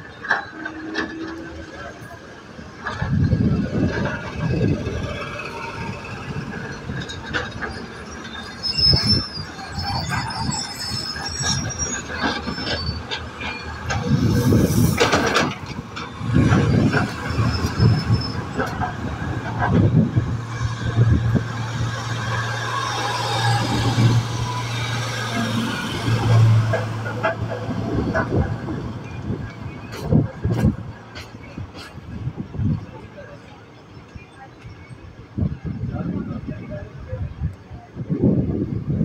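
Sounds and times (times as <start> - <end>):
wheels squealing: 0.0 - 37.3
train wheels rumbling on rails: 0.0 - 39.0.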